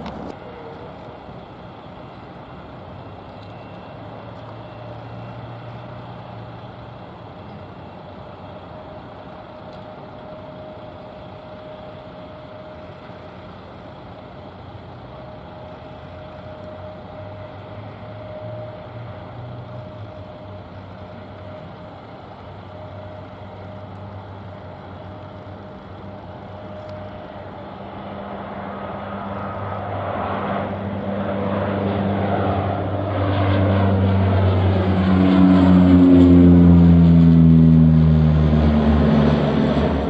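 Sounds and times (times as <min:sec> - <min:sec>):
aircraft engines passing: 0:00.0 - 0:40.0.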